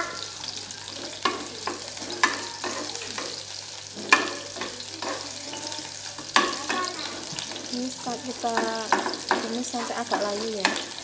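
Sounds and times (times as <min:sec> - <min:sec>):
shallots sizzling in a frying pan: 0:00.0 - 0:11.0
spatula scraping a pan: 0:00.0 - 0:11.0.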